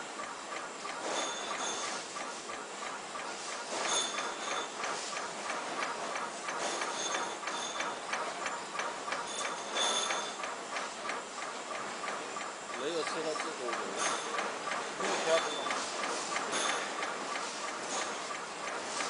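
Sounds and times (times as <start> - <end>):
machine clicking rapidly: 0.2 - 19.0.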